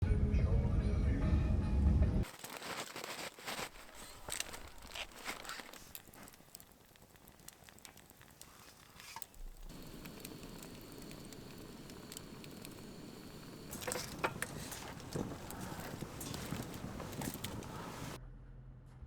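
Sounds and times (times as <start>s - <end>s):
fire crackling and popping: 2.2s - 18.2s
food sizzling: 2.2s - 18.2s.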